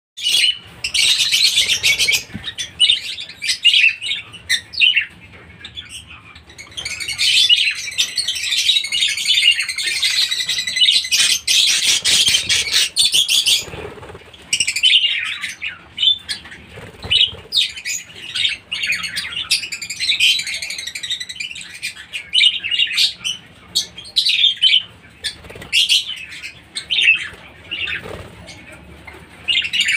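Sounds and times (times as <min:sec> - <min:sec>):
budgerigars chattering and warbling: 0:00.2 - 0:29.9.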